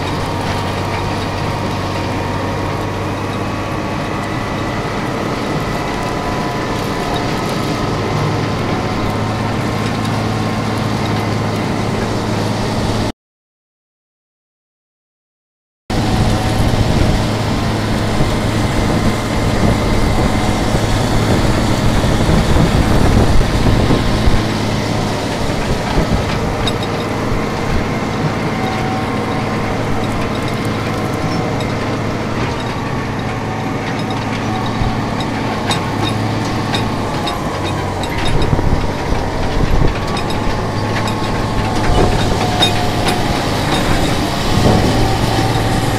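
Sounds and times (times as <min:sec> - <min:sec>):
tractor diesel engine running: 0:00.0 - 0:13.1, 0:15.9 - 0:45.9.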